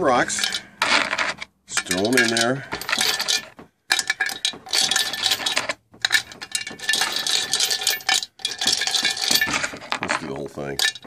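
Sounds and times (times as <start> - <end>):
small rocks clinking and clattering: 0.2 - 11.0.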